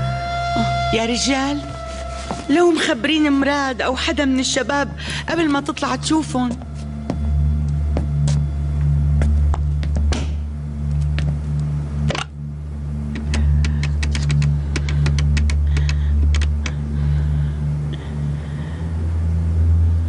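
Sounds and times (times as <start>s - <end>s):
low drone: 0.0s - 20.0s.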